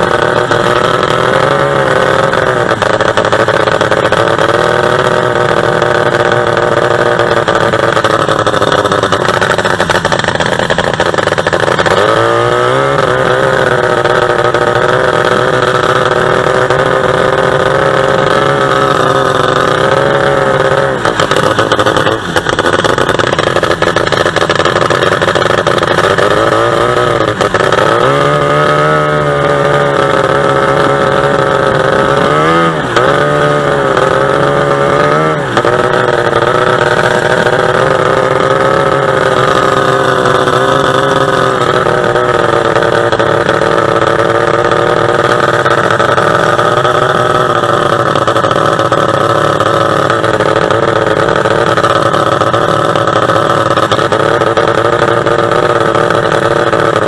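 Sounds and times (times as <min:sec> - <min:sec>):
boat engine at high revs: 0:00.0 - 0:57.0.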